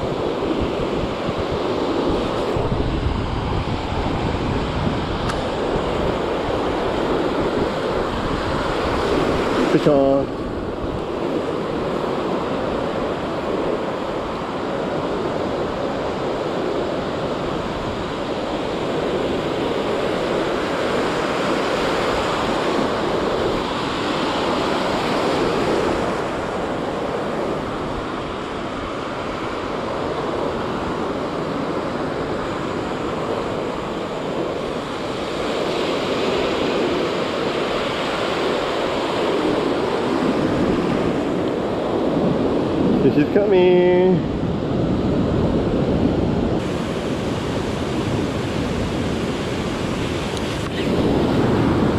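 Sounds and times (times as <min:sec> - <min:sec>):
ocean surf breaking: 0:00.0 - 0:51.9.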